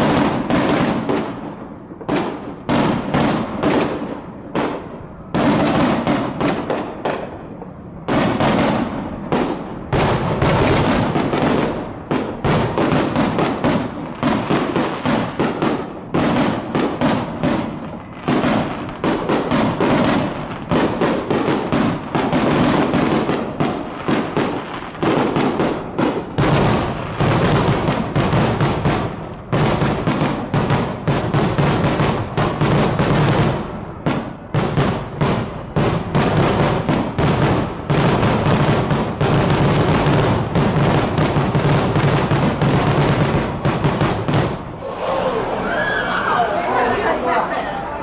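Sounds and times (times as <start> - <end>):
fireworks bangs and crackling: 0.0 - 45.2.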